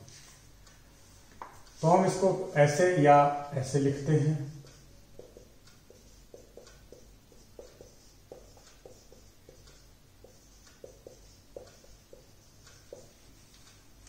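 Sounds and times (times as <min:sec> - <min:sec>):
marker pen writing on whiteboard: 0:01.0 - 0:02.8, 0:04.0 - 0:13.8.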